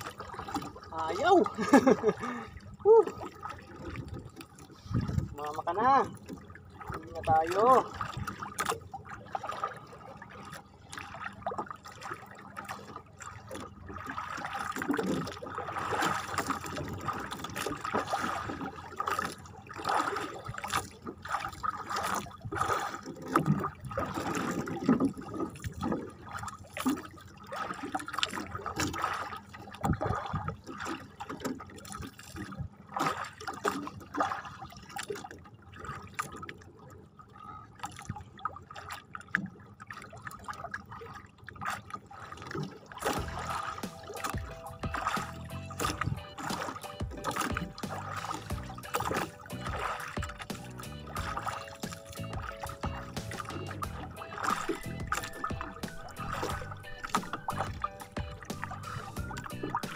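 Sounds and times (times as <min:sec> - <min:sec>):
splashes and knocks: 0:00.0 - 0:36.6, 0:37.8 - 0:59.9
water sloshing against boat hull: 0:00.0 - 0:59.9.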